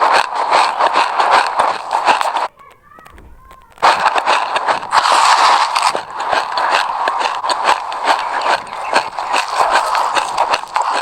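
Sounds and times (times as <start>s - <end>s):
sesame seeds crunching when chewed: 0.0s - 2.5s, 3.7s - 11.0s.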